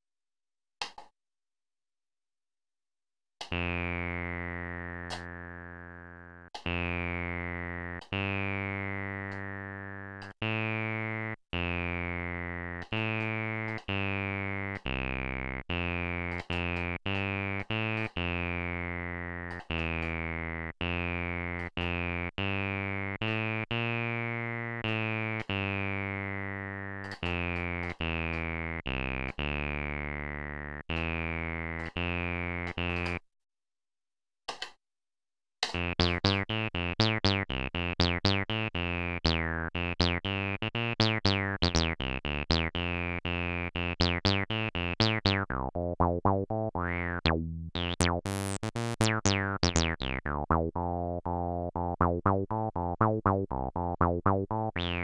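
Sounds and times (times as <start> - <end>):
acid synth bass notes: 3.5 - 33.2, 35.8 - 55.0.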